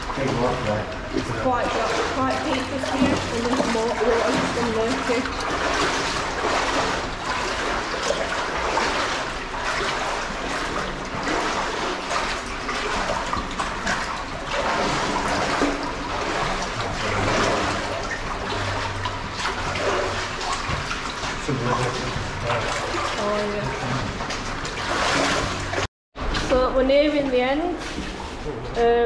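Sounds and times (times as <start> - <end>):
brook water trickling and splashing: 0.0 - 25.9.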